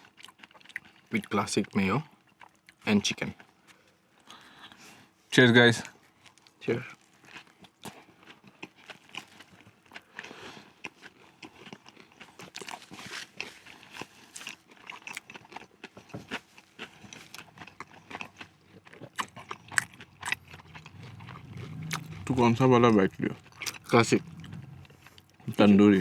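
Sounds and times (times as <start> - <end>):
chewing crispy fried chicken: 0.0 - 26.0.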